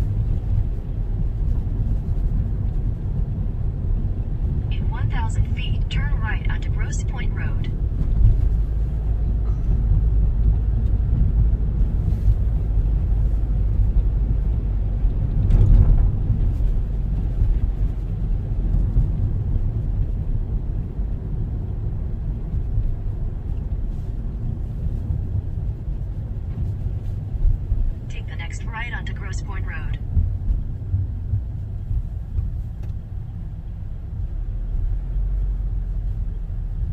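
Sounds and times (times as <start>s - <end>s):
car cabin road and engine rumble: 0.0s - 36.9s.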